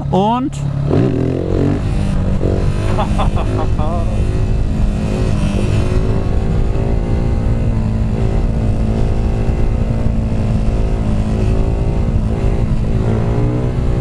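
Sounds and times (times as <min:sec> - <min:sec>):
motorcycle engine revving: 0:00.6 - 0:14.0
wind rushing: 0:00.9 - 0:14.0.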